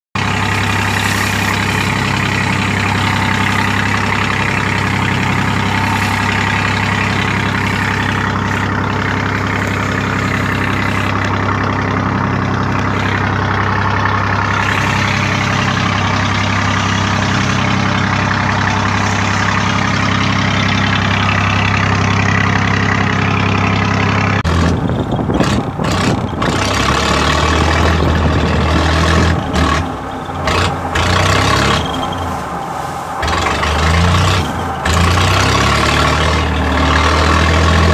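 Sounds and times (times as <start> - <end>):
boat engine droning: 0.0 - 37.9
rough sea: 0.2 - 23.8, 24.5 - 37.9
wind hissing: 0.2 - 23.8, 27.5 - 36.8.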